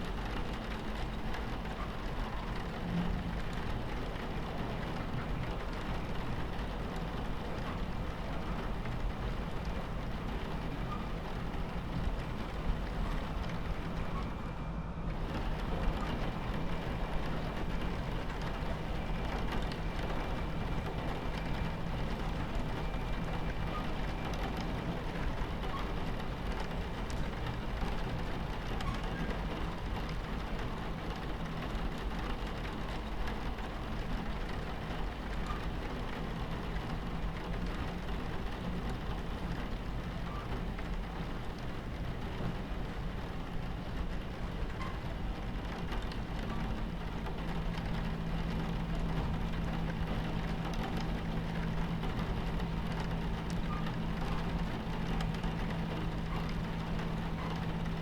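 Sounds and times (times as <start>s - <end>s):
rain pattering on window: 0.0s - 58.0s
train rumbling on tracks: 0.0s - 58.0s.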